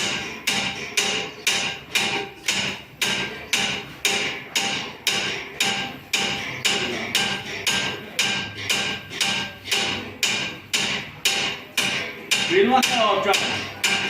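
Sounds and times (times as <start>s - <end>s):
hammer striking copper: 0.0s - 14.0s.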